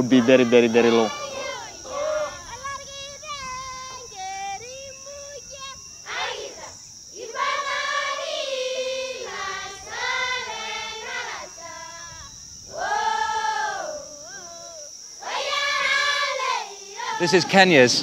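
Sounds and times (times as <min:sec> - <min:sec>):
children singing: 0:00.0 - 0:17.8.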